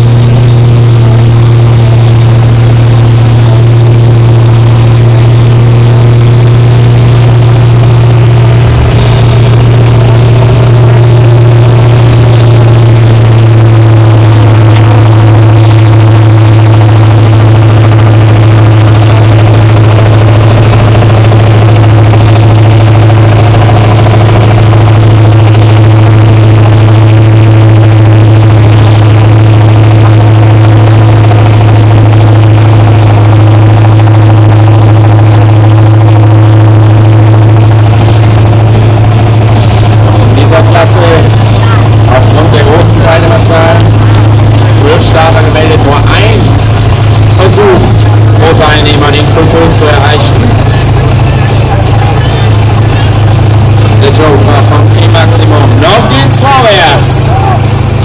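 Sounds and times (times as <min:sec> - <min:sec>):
tractor engine under full load: 0:00.0 - 0:58.0.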